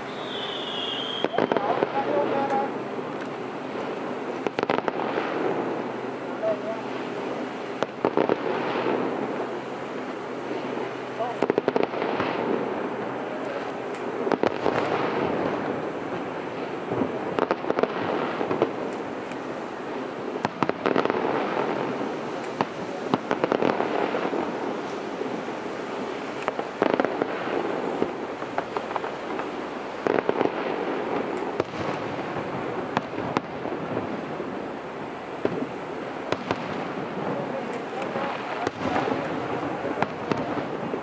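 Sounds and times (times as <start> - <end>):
fireworks bangs: 0.0 - 41.0
fireworks crackling: 0.0 - 41.0.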